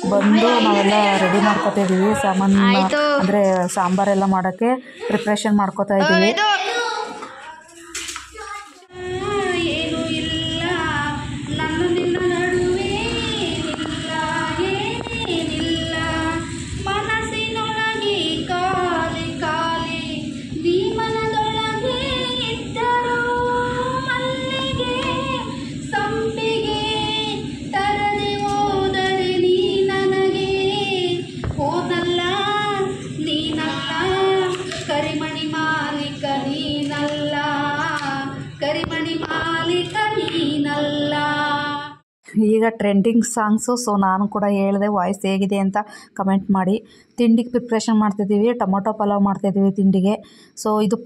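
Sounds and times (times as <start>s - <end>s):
woman singing: 0.0s - 6.4s, 8.9s - 45.9s
steady low hum: 0.0s - 7.2s, 8.2s - 51.0s.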